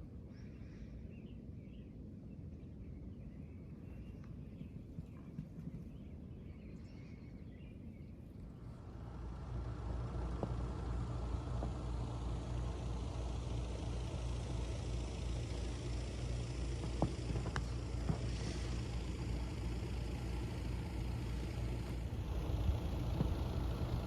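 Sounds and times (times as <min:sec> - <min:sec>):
heat pump hum: 0:03.5 - 0:24.0
faint thin whine: 0:03.6 - 0:24.0.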